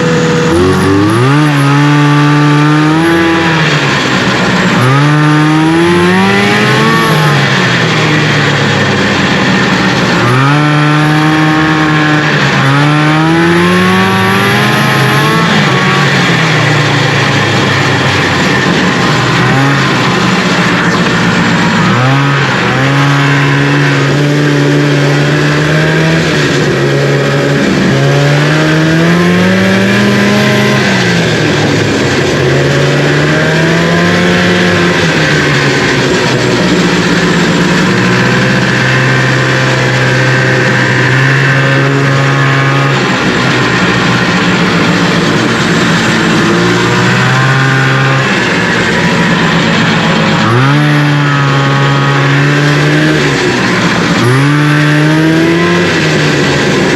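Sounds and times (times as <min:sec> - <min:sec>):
two-stroke engine revving: 0:00.0 - 0:56.9.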